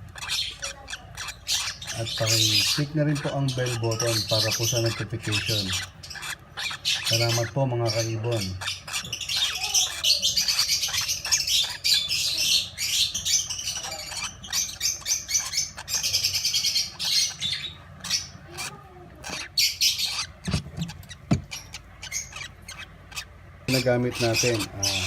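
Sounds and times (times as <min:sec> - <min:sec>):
lovebirds chirping: 0:00.0 - 0:25.0.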